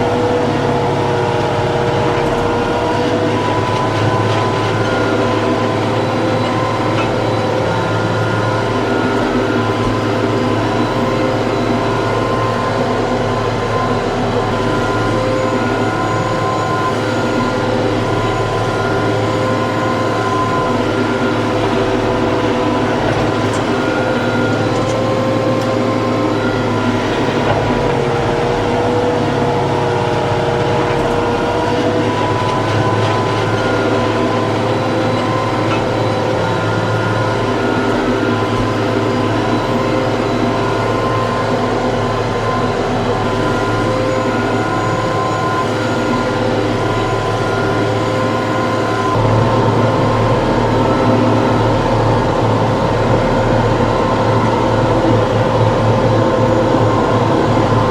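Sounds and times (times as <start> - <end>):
tractor engine droning: 0.0 - 57.9.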